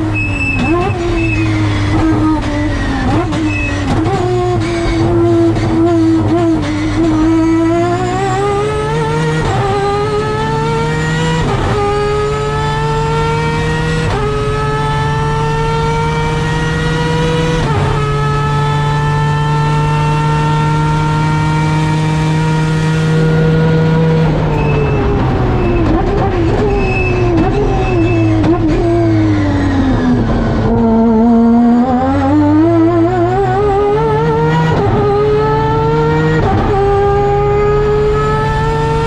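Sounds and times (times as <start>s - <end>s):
rotary engine accelerating: 0.0s - 39.0s.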